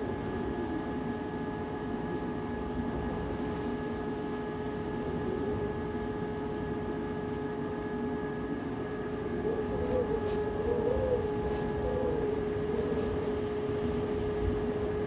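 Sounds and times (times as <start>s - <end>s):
whistling howl of wind: 0.0s - 15.0s.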